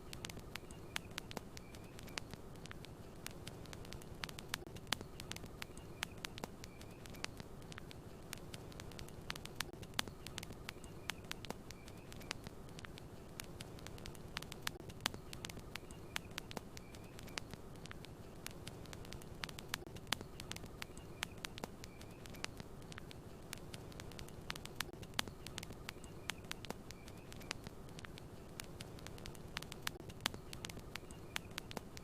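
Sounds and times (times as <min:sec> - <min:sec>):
burning wood hissing: 0:00.0 - 0:32.0
campfire crackling and popping: 0:00.0 - 0:32.0.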